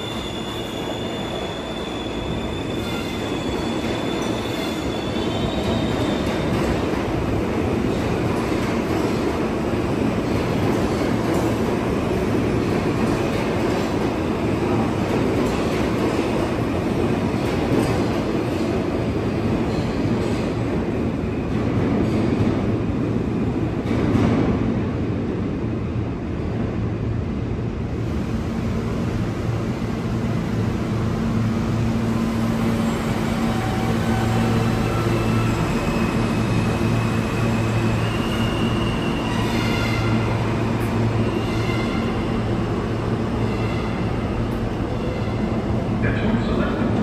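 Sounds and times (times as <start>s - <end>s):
subway train rumbling: 0.0s - 47.0s.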